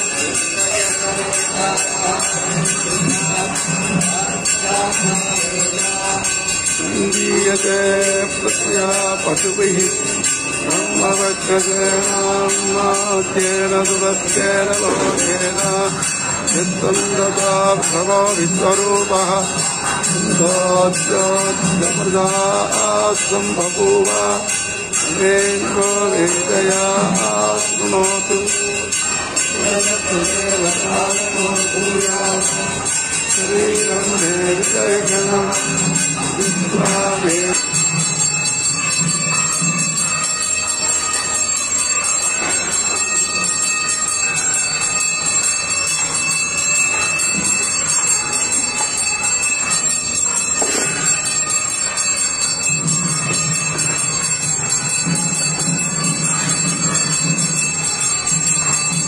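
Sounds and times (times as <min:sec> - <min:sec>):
bells jingling: 0:00.0 - 0:59.0
chanted melody: 0:00.0 - 0:59.0.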